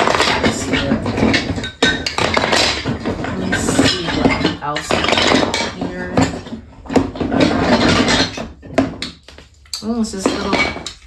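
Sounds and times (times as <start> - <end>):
wooden track pieces clattering: 0.0 - 11.0.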